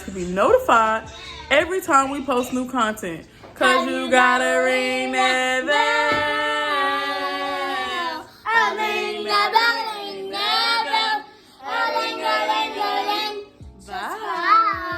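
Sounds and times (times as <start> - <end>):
woman singing unaccompanied: 0.0 - 14.9.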